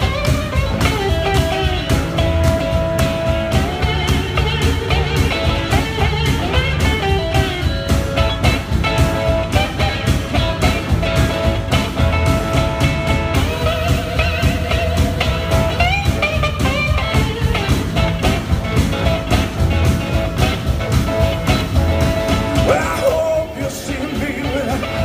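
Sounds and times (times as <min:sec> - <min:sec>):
guitar gliding notes: 0:00.0 - 0:25.0
live band music: 0:00.0 - 0:25.0.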